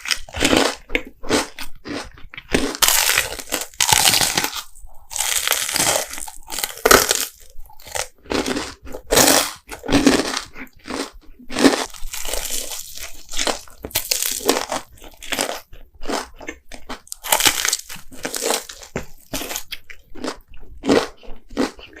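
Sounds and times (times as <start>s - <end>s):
crunchy chewing of food: 0.0s - 22.0s.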